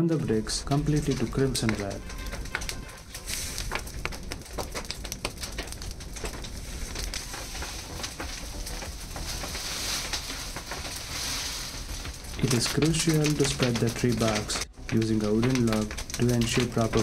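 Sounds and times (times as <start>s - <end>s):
dry leafy branches rustling: 0.0s - 17.0s
fire crackling: 0.0s - 17.0s.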